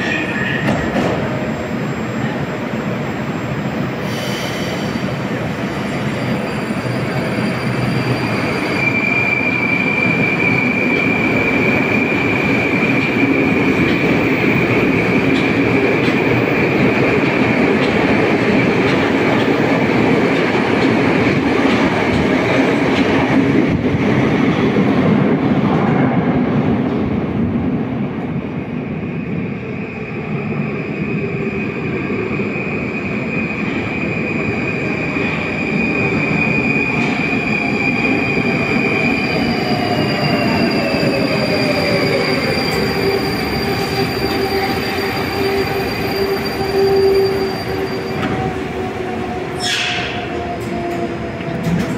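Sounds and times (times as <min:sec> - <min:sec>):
high whine of train: 0:00.0 - 0:51.9
metro train approaching: 0:00.0 - 0:51.9
metro train running: 0:00.0 - 0:51.9.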